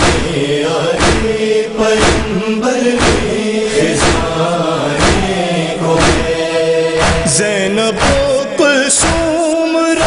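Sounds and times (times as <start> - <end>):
heavy chest-beating rhythm: 0.0 - 10.0
male chorus chanting: 0.0 - 10.0.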